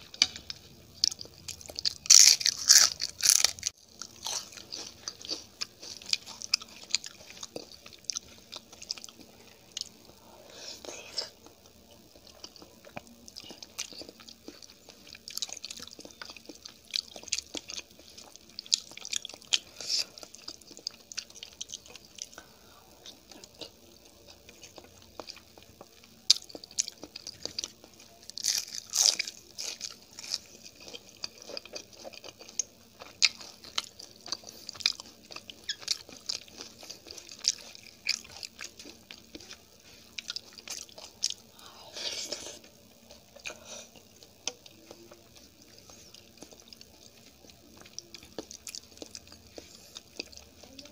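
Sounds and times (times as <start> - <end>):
chewing food with crisp crunches: 0.0 - 50.9.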